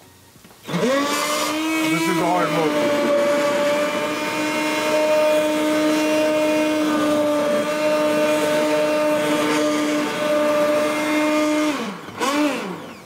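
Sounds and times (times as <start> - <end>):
hand blender motor whining: 0.6 - 13.0.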